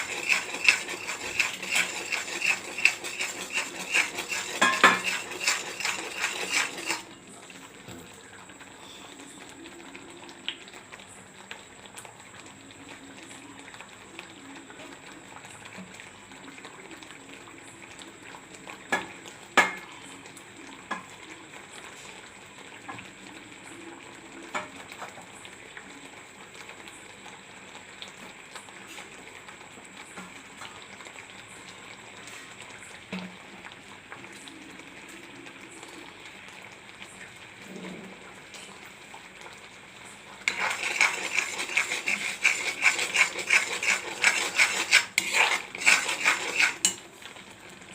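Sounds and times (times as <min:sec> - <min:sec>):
syrup bubbling in a pan: 0:00.0 - 0:47.9.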